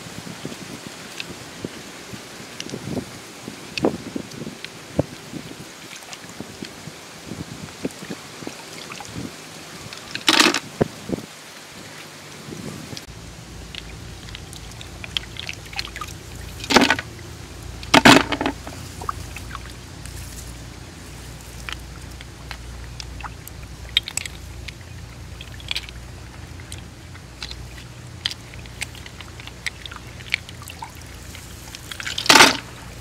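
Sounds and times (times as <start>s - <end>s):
muddy water splashing: 0.6s - 33.0s
small clicks and drips: 0.6s - 33.0s.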